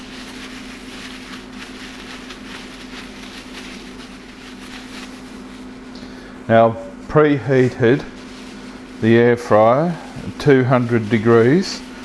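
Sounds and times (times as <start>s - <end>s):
plastic bag rustling: 0.0s - 6.3s, 7.0s - 12.0s
steady low hum: 0.0s - 12.0s.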